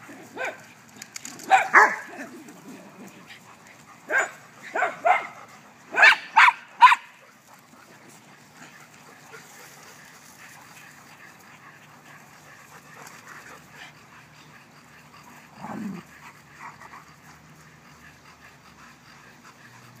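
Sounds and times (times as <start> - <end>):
dogs panting: 0.0 - 20.0.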